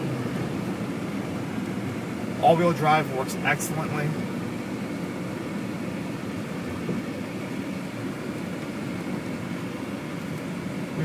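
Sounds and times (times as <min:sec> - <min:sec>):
car engine rumble from inside: 0:00.0 - 0:11.0.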